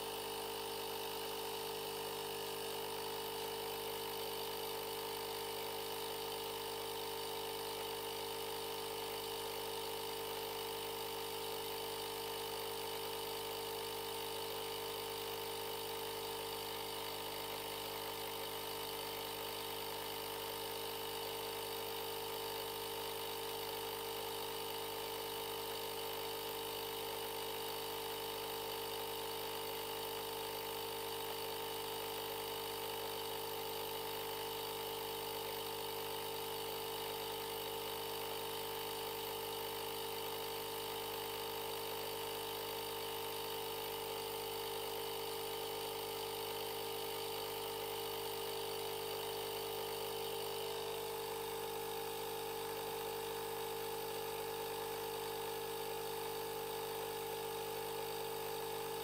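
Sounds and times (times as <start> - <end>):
air compressor humming: 0.0 - 59.0.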